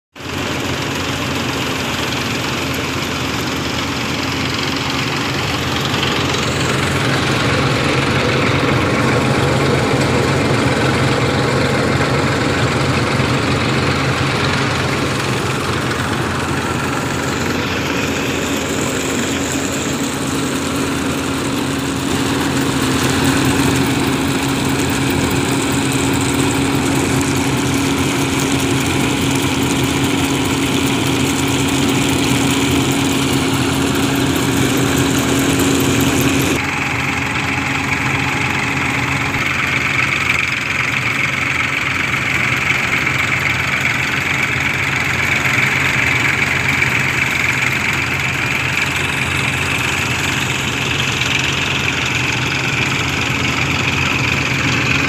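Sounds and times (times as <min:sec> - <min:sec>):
tractor diesel engine running: 0:00.1 - 0:55.0
thresher running noise: 0:00.2 - 0:55.0.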